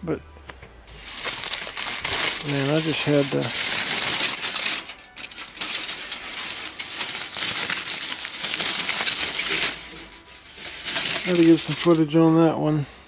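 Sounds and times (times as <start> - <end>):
aluminum foil crinkling: 0.9 - 12.2.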